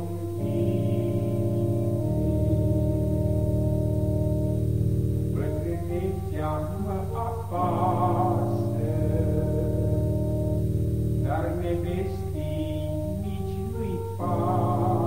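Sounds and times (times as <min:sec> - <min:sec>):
folk melody with wavering notes: 0:00.0 - 0:15.0
sustained accompaniment: 0:00.0 - 0:15.0.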